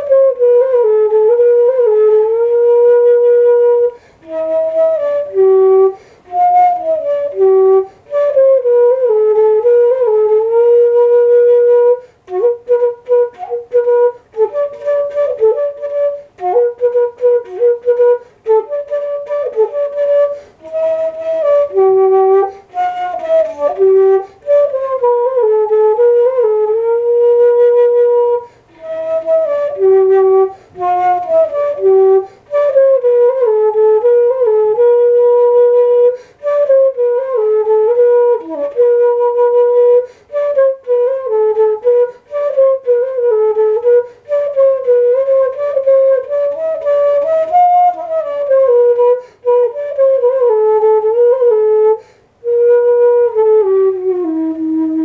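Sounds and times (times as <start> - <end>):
flute-like wind instrument melody: 0.0 - 55.0.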